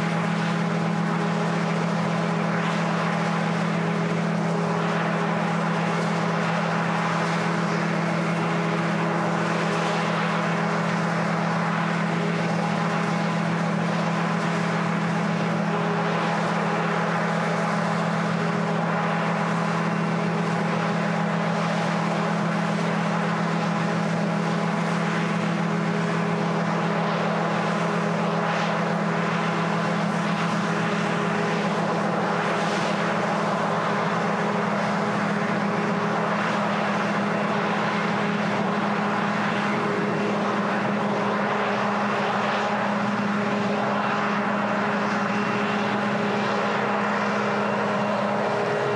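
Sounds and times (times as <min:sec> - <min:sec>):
drone propeller hum: 0:00.0 - 0:48.9.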